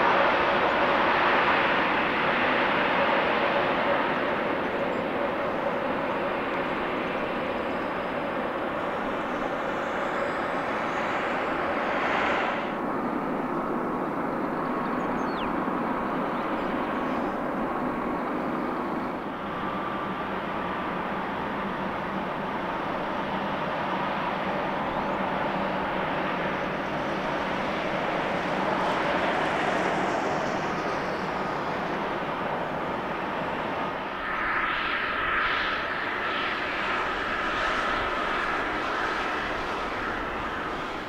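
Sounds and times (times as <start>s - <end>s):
jet engines running: 0.0s - 41.0s.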